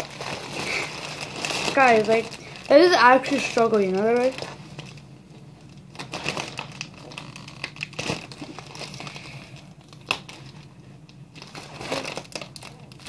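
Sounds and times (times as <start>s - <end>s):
balloon crinkling and rustling: 0.0s - 13.0s.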